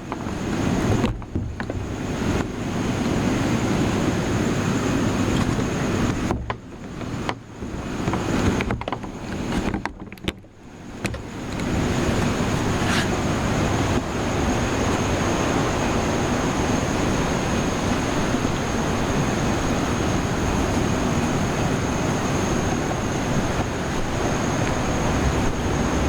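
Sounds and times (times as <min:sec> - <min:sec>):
sea waves washing onto shore: 0:00.0 - 0:09.6, 0:10.7 - 0:26.0.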